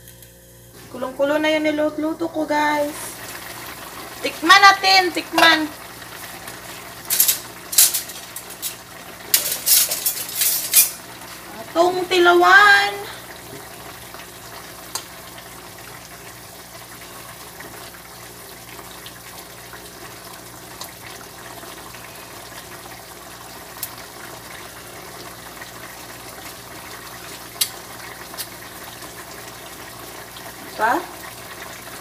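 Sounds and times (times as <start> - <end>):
broth bubbling in a wok: 0.8 - 32.0.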